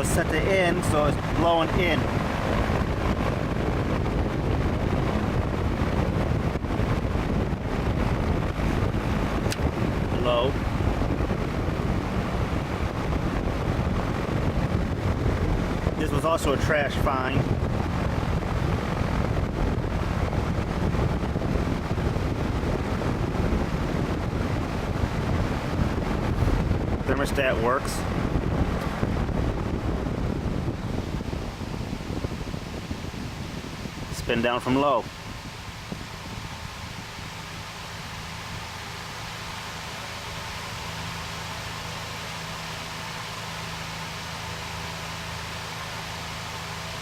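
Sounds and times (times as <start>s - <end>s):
box fan running: 0.0s - 47.0s.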